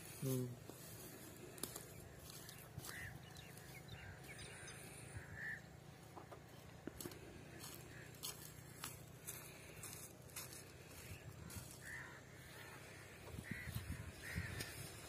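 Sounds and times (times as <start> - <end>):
distant bird calls: 0.0 - 15.0.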